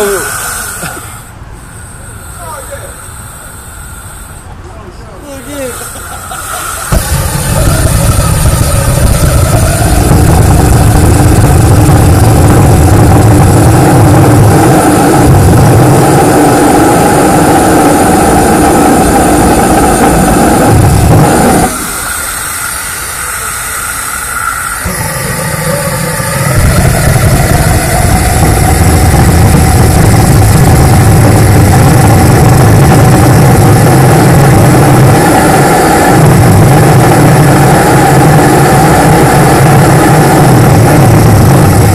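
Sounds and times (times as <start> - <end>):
ramjet engine roaring: 0.0 - 4.6, 5.2 - 41.9.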